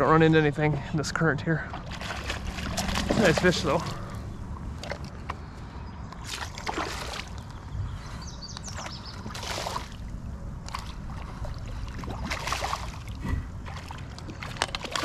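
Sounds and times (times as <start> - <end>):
water sloshing around kayak: 0.6 - 15.0.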